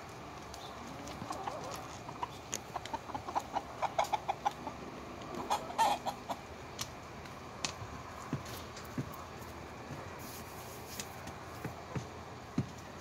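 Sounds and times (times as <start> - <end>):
chickens clucking: 0.4 - 12.8.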